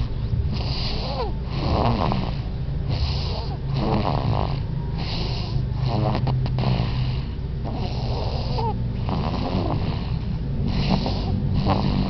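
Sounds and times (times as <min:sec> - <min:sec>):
continuous low rumble: 0:00.0 - 0:12.0
baby snoring: 0:00.5 - 0:12.0.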